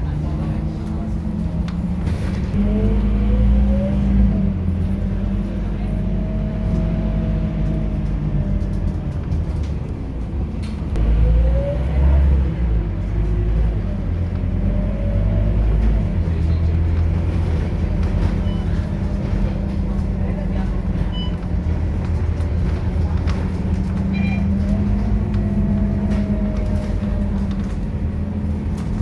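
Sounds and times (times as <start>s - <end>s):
bus engine rumble: 0.0s - 29.0s.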